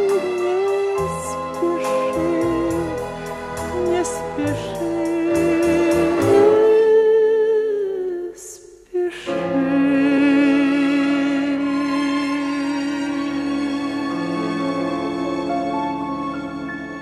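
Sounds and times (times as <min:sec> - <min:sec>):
slow song music: 0:00.0 - 0:17.0.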